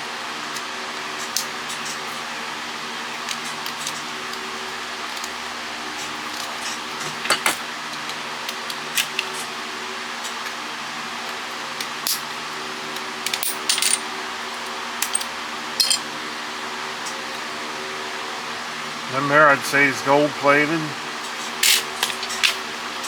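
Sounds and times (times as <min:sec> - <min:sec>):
steady fan hum: 0:00.0 - 0:23.0.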